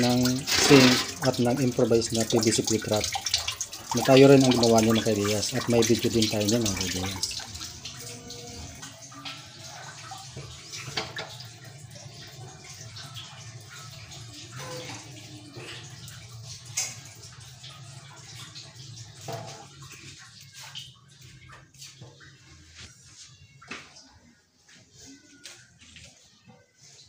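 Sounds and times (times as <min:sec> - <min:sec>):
tap water running into steel sink: 0:00.0 - 0:22.5.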